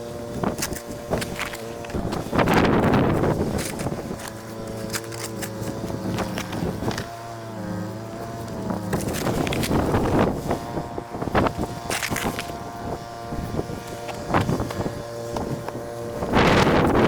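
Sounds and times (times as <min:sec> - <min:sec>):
snowblower engine running: 0:00.0 - 0:17.0
wind buffeting microphone: 0:00.0 - 0:17.0.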